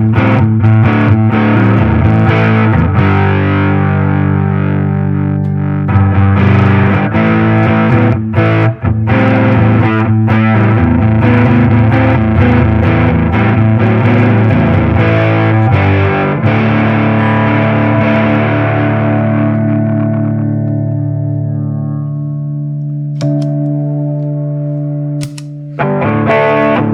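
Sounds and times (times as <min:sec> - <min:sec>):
distorted electric guitar: 0:00.0 - 0:26.9.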